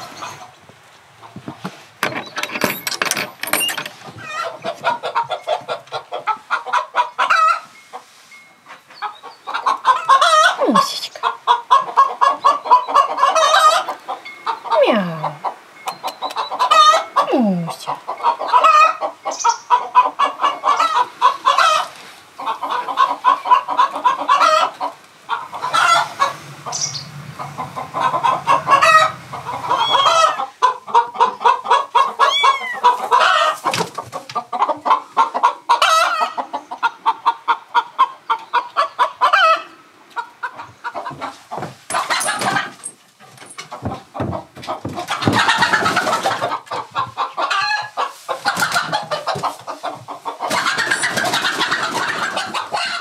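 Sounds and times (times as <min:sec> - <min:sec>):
chickens clucking: 0:00.0 - 0:53.0
chicken high calls: 0:04.0 - 0:42.9, 0:43.6 - 0:53.0.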